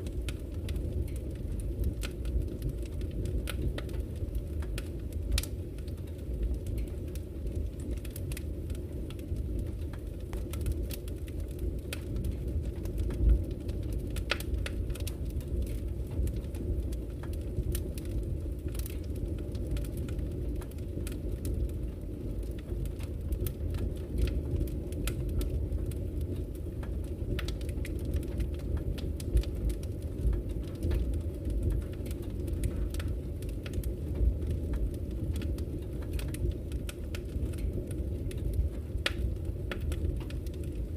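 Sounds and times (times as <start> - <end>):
burning wood crackling and popping: 0.0 - 40.9
low rumble of flames: 0.0 - 40.9.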